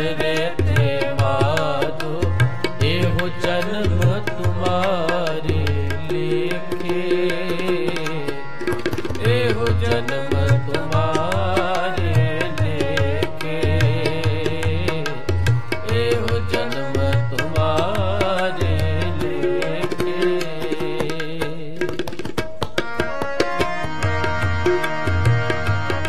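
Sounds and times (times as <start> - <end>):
harmonium melody: 0.0 - 26.0
tabla rhythm: 0.0 - 26.0.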